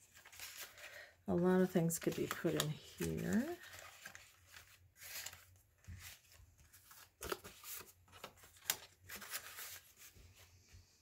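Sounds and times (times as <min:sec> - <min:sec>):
paper rustling and sliding: 0:00.0 - 0:01.0, 0:02.2 - 0:10.8.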